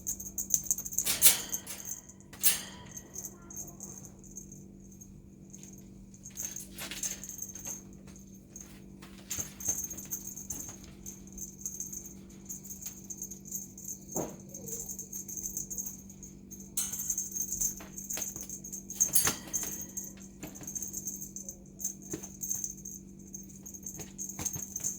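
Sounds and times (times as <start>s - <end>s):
rattling and jingling: 0.0s - 24.9s
steady low hum: 0.0s - 24.9s.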